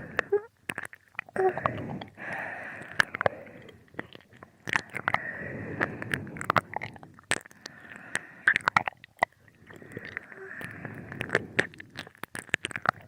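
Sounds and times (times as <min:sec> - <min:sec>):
wet tongue and lip smacks: 0:00.2 - 0:02.2, 0:02.8 - 0:05.2, 0:05.8 - 0:13.0.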